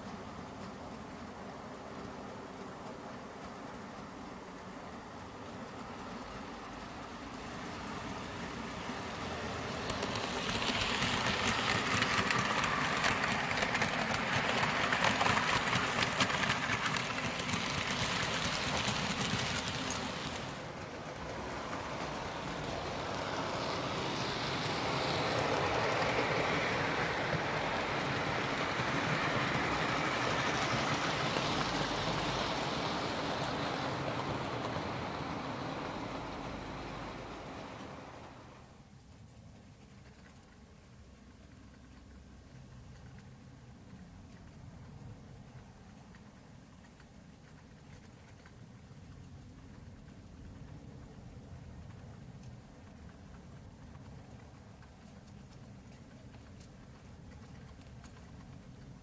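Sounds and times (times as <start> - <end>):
model train running noise: 0.0 - 59.0
model train wheels clicking: 0.0 - 59.0.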